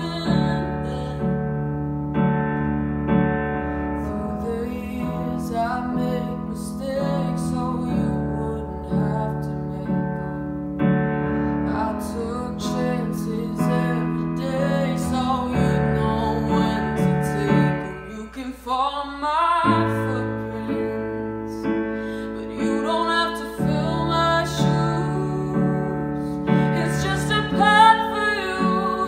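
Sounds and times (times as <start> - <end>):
woman singing a slow ballad: 0.0 - 2.0, 3.8 - 29.0
electric piano chords: 0.0 - 29.0.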